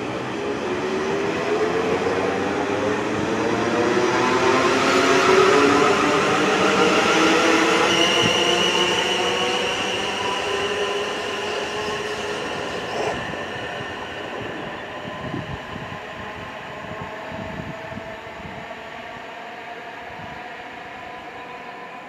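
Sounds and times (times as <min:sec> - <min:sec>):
electric train whine: 0:00.0 - 0:22.0
train running on rails: 0:00.0 - 0:22.0.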